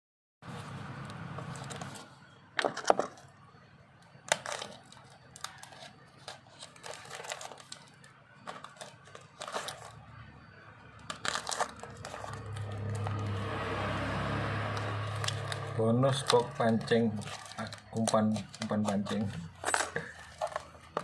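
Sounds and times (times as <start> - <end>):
crinkling and rustling handling noise: 0.4 - 21.0.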